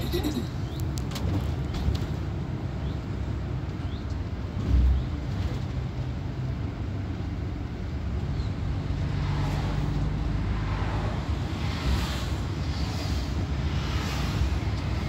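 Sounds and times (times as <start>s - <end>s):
bus engine hum: 0.0s - 15.0s
road rumble: 0.0s - 15.0s.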